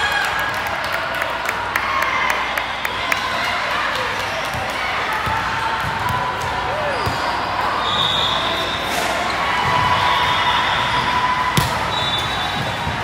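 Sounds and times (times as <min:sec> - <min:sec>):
echoing sports hall hubbub: 0:00.0 - 0:13.0.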